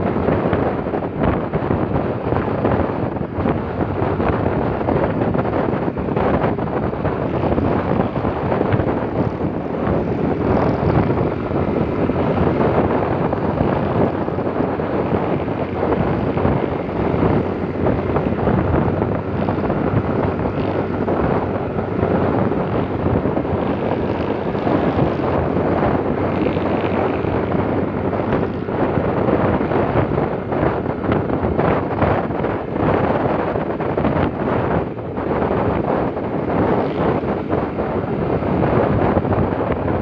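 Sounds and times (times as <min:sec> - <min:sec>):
motorcycle engine: 0:00.0 - 0:40.0
road noise: 0:00.0 - 0:40.0
wind buffeting microphone: 0:00.0 - 0:40.0.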